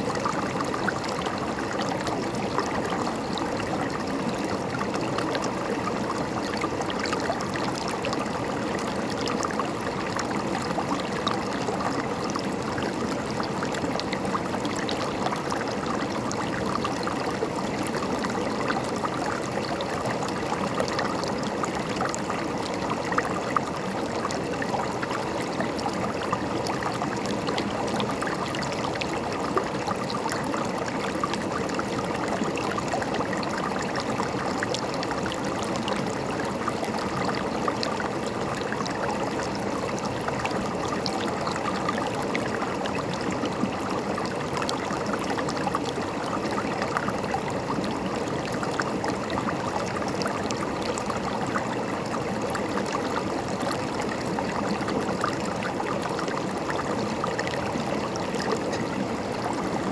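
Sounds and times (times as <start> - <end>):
river water gurgling over rocks: 0.0 - 59.9.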